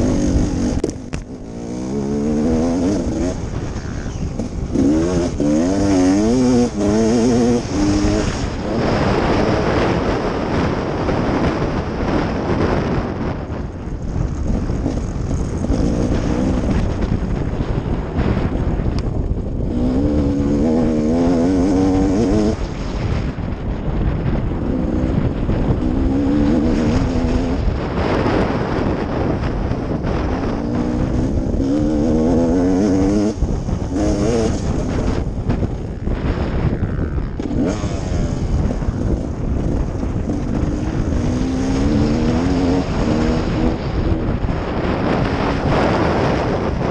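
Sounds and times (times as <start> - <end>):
dirt bike engine revving: 0.0 - 18.6, 19.6 - 23.2, 24.3 - 46.9.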